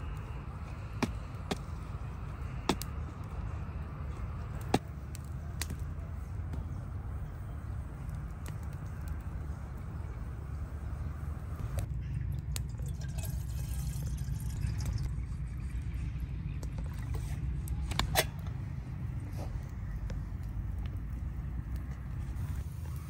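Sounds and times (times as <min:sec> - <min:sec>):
campfire wood cracking and popping: 0:00.0 - 0:15.8, 0:16.4 - 0:23.0
steady low rumble: 0:00.0 - 0:23.0.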